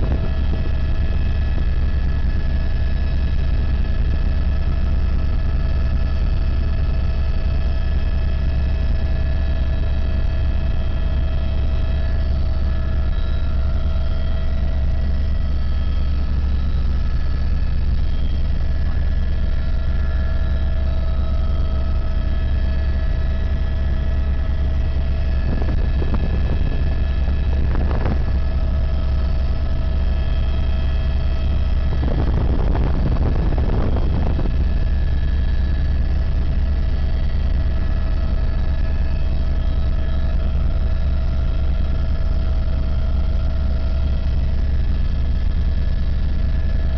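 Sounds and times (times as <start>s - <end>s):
helicopter rotor and engine drone: 0.0s - 46.9s
turbine whine: 0.0s - 46.9s.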